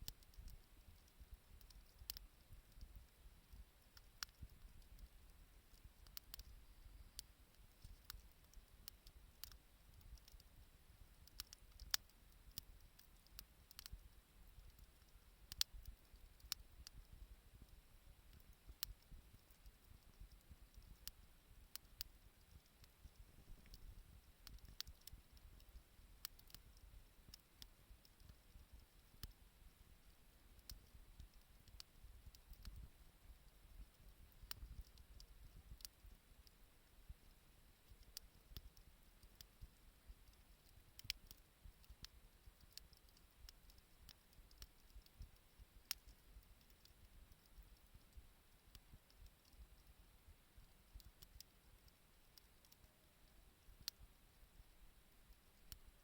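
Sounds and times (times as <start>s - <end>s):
bonfire crackling and popping: 0.0s - 37.2s, 37.8s - 49.9s.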